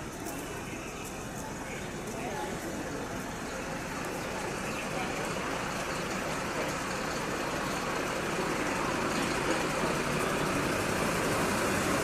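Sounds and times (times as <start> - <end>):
street noise: 0.0 - 12.0
vehicle engine idling: 0.0 - 12.0.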